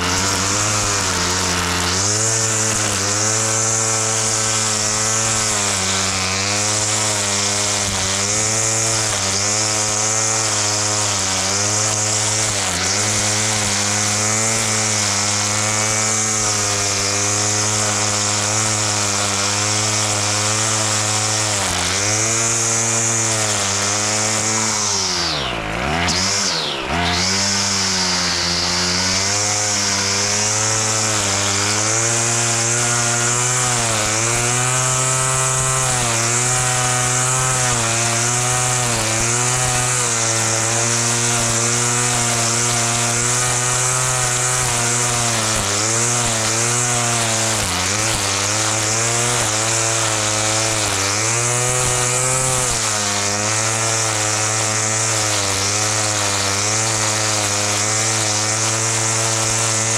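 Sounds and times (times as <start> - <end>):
lawn mower engine cutting grass: 0.0 - 59.9
mower blade hiss: 0.0 - 59.9.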